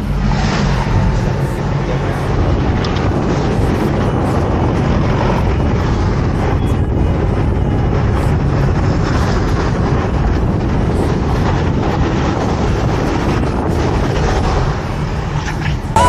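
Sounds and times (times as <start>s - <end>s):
wind and road noise: 0.0s - 16.0s
wind buffeting microphone: 0.0s - 16.0s.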